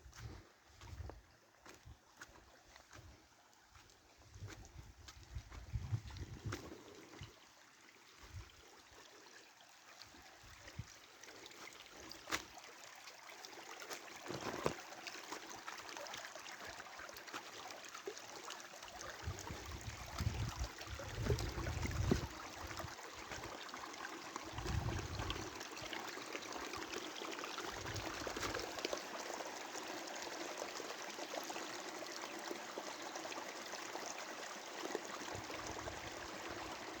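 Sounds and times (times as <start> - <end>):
rainwater running and trickling: 0.1 - 37.0.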